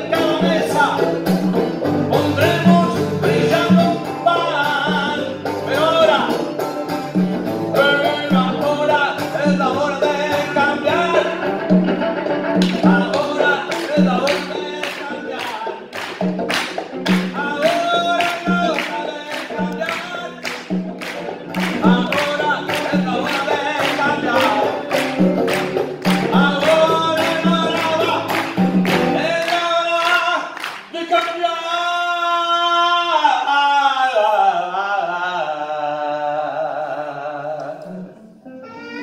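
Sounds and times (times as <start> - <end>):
man singing: 0.0 - 6.6, 7.6 - 11.8, 12.6 - 39.0
conga drums: 0.0 - 33.5
acoustic guitar: 0.0 - 39.0.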